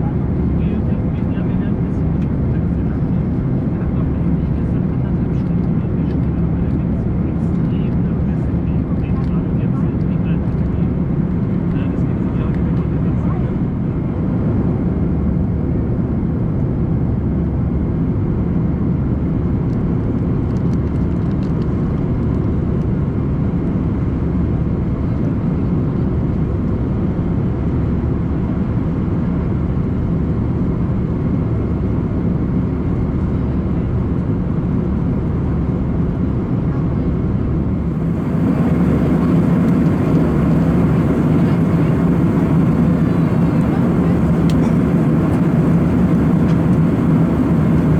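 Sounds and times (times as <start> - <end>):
airliner cabin engine rush: 0.0 - 47.9.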